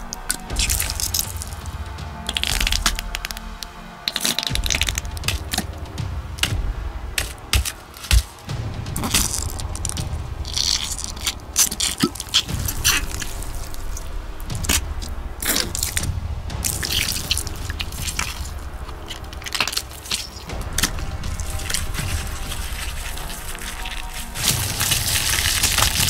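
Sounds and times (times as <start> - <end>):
low rumble: 0.0 - 26.0
wet squelches and splatters: 2.3 - 5.7, 7.2 - 26.0.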